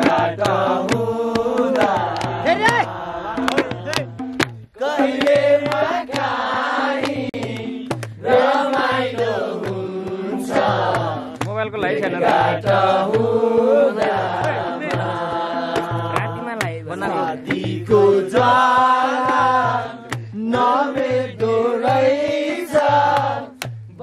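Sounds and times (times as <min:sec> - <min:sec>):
repeating drum beat: 0:00.0 - 0:24.0
voices singing folk song: 0:00.0 - 0:24.0.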